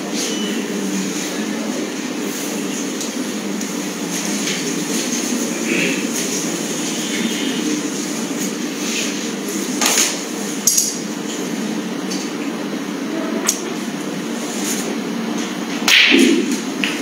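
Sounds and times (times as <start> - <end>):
low hall hum: 0.0 - 17.0.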